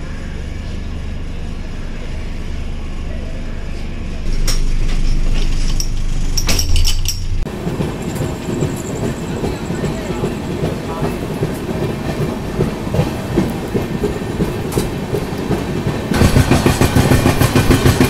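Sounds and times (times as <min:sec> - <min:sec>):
train coach rumble: 0:00.0 - 0:18.0.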